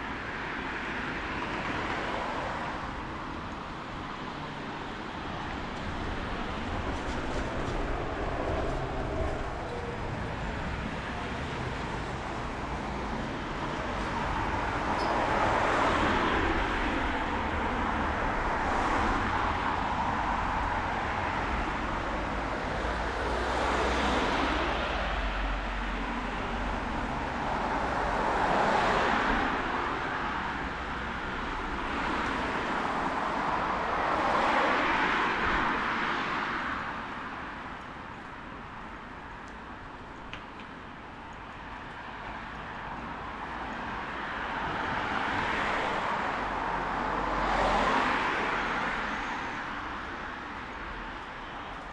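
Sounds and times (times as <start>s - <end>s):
traffic noise: 0.0s - 51.9s.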